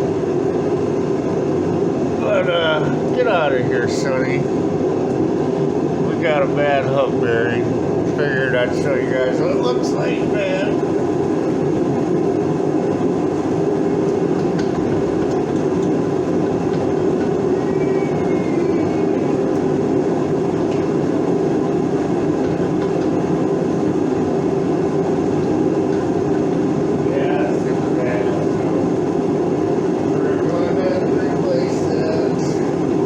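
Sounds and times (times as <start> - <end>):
loud mechanical drone: 0.0 - 33.0.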